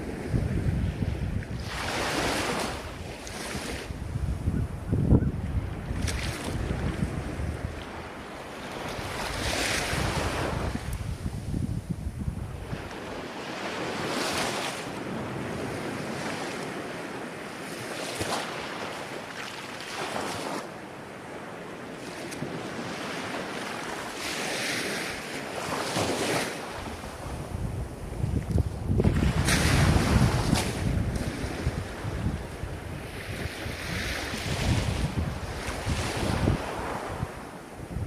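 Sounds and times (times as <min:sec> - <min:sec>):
ocean waves breaking: 0:00.0 - 0:04.3, 0:05.4 - 0:38.0
wind rumbling on microphone: 0:00.0 - 0:19.1, 0:19.9 - 0:38.0.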